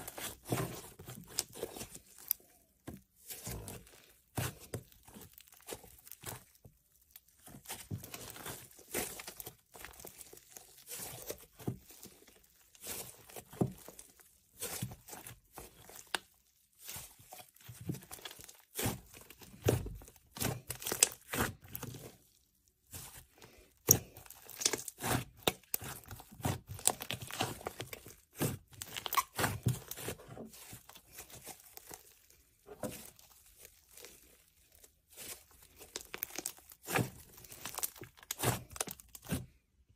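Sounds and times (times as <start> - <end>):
slime crackling and popping: 0.1 - 2.4, 3.2 - 23.2, 23.8 - 39.5.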